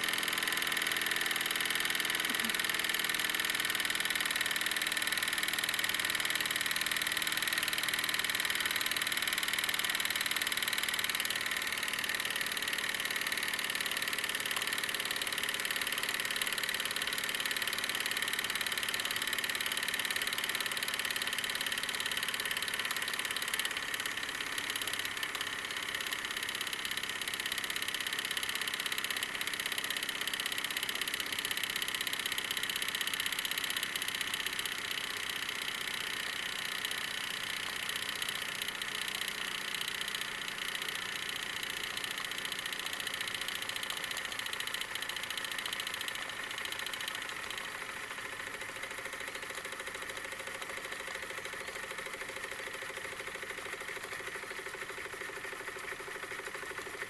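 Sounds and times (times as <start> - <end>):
steam engine chuffing: 0.0 - 57.0.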